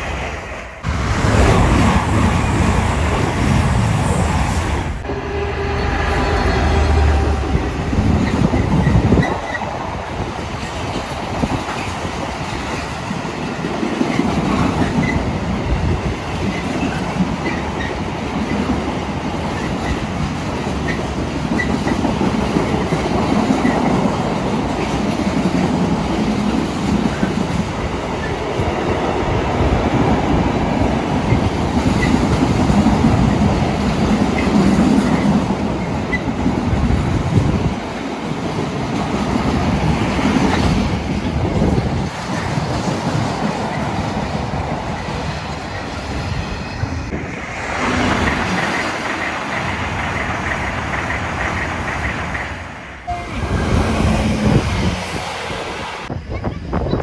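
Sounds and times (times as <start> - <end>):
freight wagons rumbling on rails: 0.8 - 57.0.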